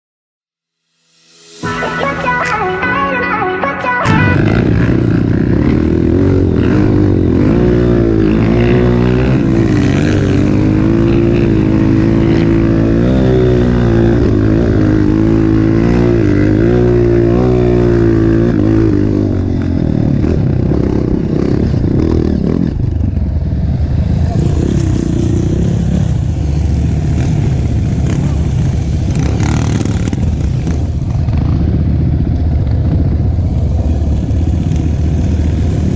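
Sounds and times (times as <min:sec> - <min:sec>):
motorcycle engine revving: 0:04.0 - 0:35.9.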